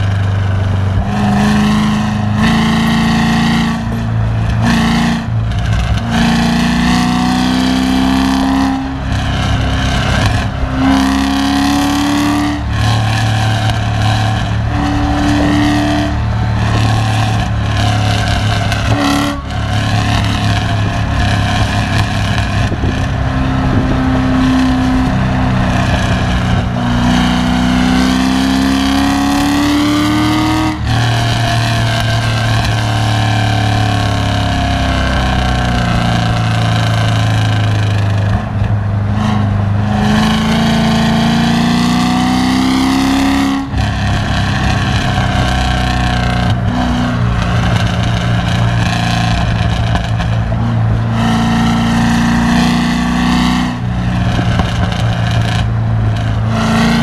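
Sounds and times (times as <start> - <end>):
car engine running hard: 0.0 - 57.0
road and wind noise: 0.0 - 57.0.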